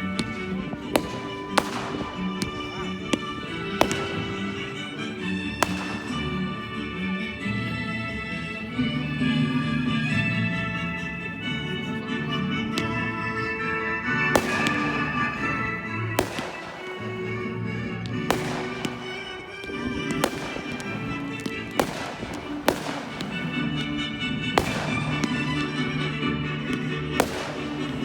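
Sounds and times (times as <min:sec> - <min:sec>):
fireworks bangs: 0:00.0 - 0:06.8, 0:11.8 - 0:28.0
background music: 0:00.0 - 0:28.0.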